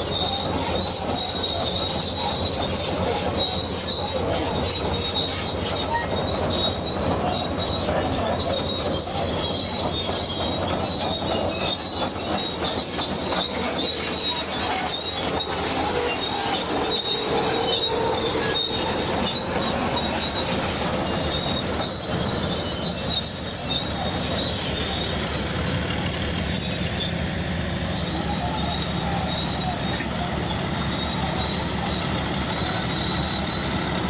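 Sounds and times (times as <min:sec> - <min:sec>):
bulldozer engine running: 0:00.0 - 0:34.0
crawler tracks squealing and clanking: 0:00.0 - 0:34.0.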